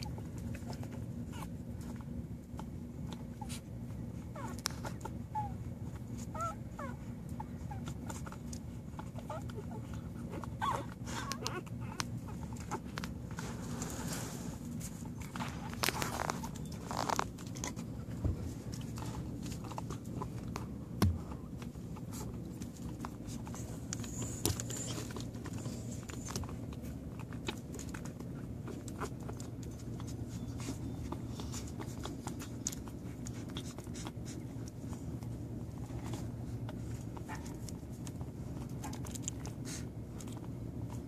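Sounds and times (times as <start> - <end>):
puppies nursing clicks and rustles: 0.0 - 41.0
steady low hum: 0.0 - 41.0.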